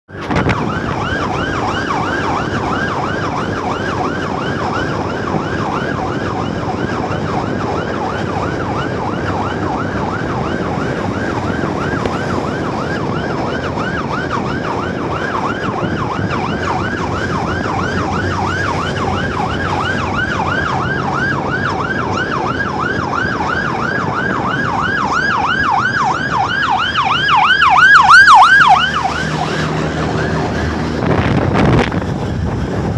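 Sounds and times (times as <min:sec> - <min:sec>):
ambulance siren yelping: 0:00.1 - 0:32.9
low traffic noise: 0:00.2 - 0:32.9.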